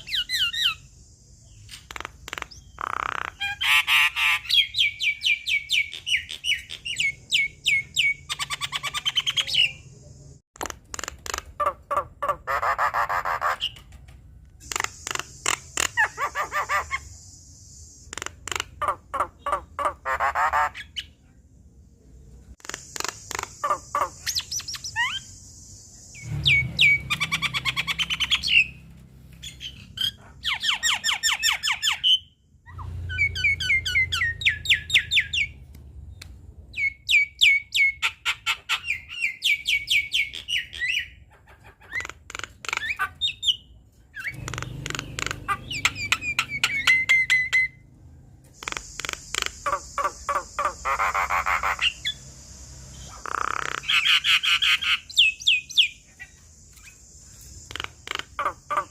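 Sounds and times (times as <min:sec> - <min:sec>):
bird harsh chattering calls: 0:00.0 - 0:09.9, 0:10.6 - 0:14.0, 0:14.6 - 0:21.2, 0:22.6 - 0:35.6, 0:36.7 - 0:47.8, 0:48.6 - 0:58.9.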